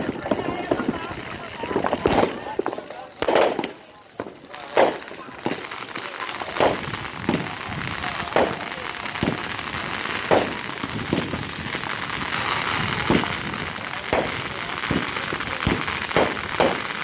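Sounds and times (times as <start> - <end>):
firework bangs: 0.0 - 17.0
firework crackling: 0.0 - 17.0.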